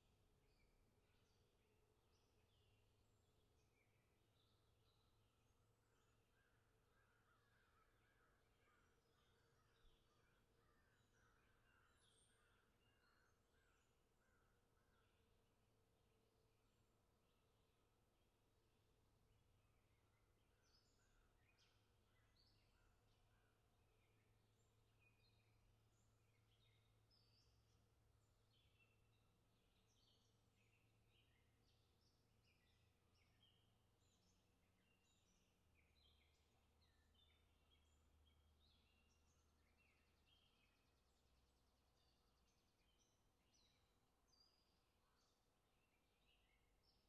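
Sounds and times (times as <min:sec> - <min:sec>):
faint songbirds chirping: 0:00.0 - 0:47.0.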